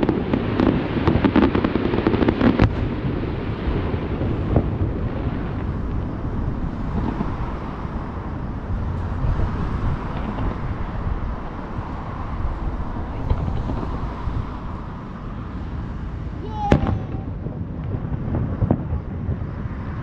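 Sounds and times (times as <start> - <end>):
distant fireworks rumble: 0.0 - 20.0
faint firework crackles: 0.0 - 20.0.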